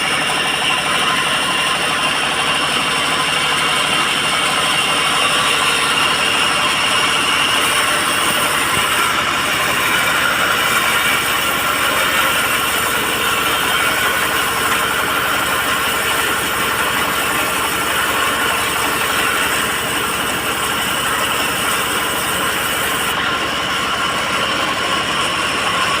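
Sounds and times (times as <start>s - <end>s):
band saw cutting timber: 0.0s - 26.0s.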